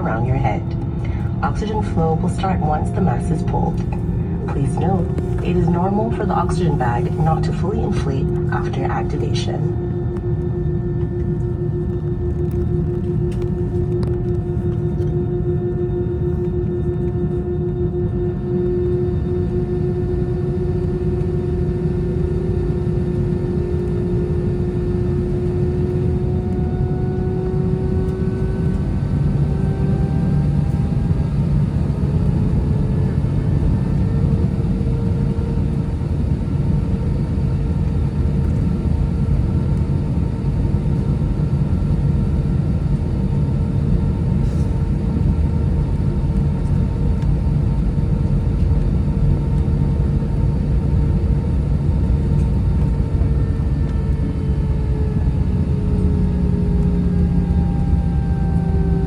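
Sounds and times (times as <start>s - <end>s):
jet engine rumble from cabin: 0.0s - 59.0s.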